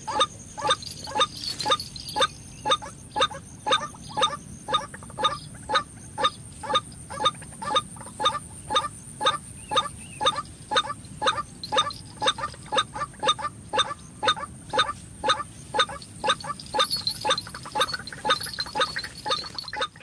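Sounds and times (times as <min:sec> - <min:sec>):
waterhen harsh call: 0:00.0 - 0:20.0.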